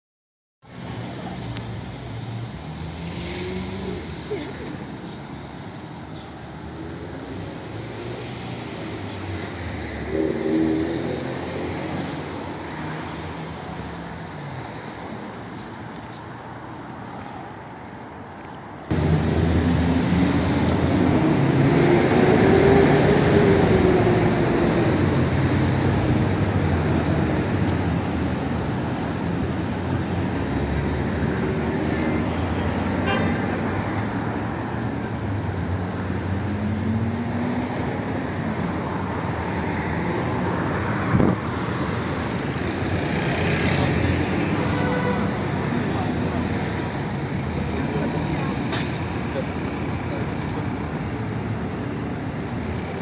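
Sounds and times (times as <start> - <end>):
cars driving past: 0.7 - 53.0.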